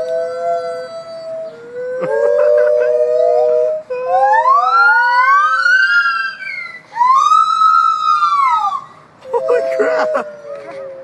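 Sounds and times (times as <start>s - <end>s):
gibbons hooting and whooping: 0.0s - 11.0s.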